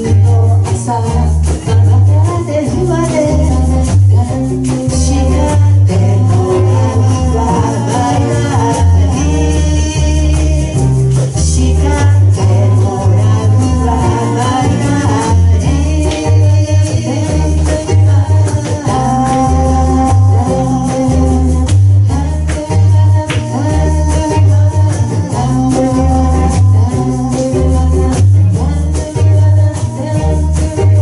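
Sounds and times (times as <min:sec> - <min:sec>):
lead vocals: 0:00.0 - 0:31.0
live band playing pop song: 0:00.0 - 0:31.0.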